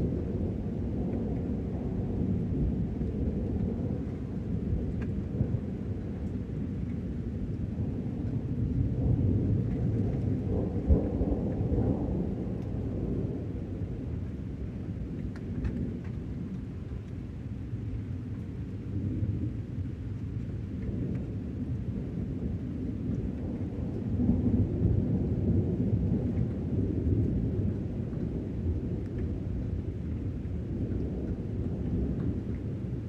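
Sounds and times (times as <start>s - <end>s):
distant thunder rumbling: 0.0s - 33.0s.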